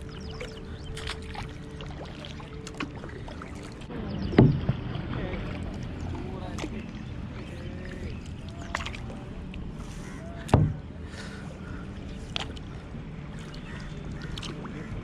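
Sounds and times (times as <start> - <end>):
paddle strokes in water: 0.0 - 15.0
water washing: 0.0 - 15.0.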